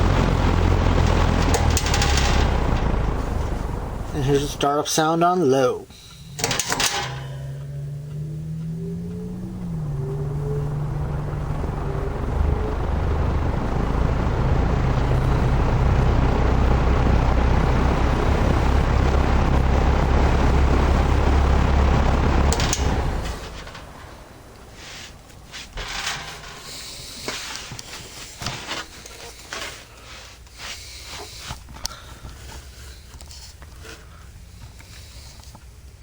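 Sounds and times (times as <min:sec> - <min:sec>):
box fan motor hum and air rush: 0:00.0 - 0:04.9, 0:06.0 - 0:36.0.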